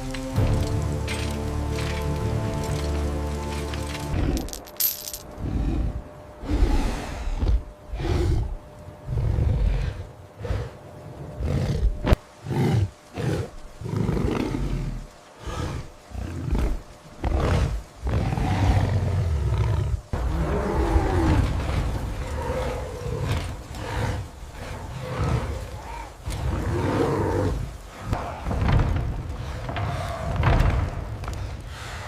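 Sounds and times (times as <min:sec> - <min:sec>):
lion-like roars and growls: 0:05.4 - 0:32.0.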